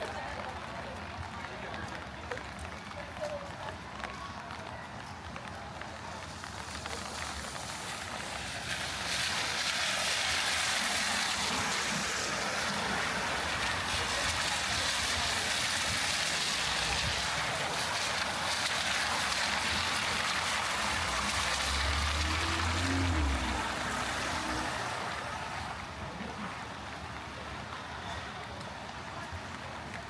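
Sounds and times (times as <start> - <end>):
heavy rain on street: 0.0 - 30.0.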